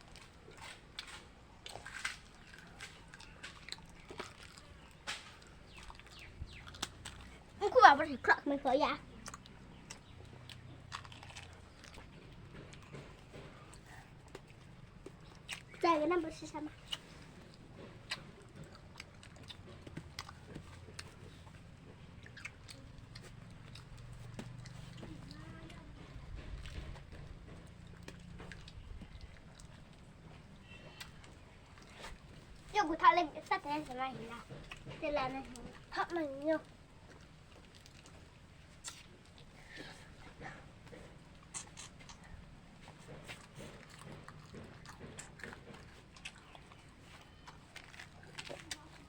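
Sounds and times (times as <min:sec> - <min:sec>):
crunching and chewing food: 0:00.0 - 0:49.0
low background hum: 0:00.0 - 0:49.0.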